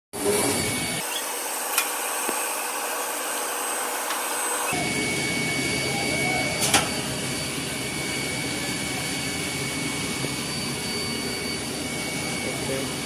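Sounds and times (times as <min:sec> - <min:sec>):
hot air blower hiss: 0:00.2 - 0:13.0
thin high whine: 0:00.2 - 0:13.0.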